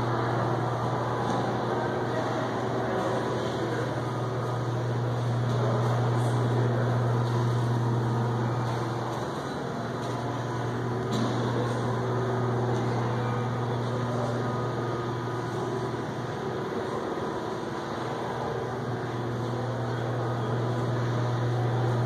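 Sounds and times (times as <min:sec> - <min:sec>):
ventilation hum: 0:00.0 - 0:22.0.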